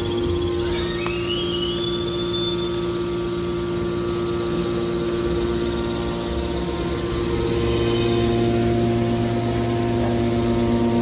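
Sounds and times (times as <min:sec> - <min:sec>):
faint high whine: 0:00.0 - 0:11.0
hydraulic pump motor humming: 0:00.0 - 0:11.0.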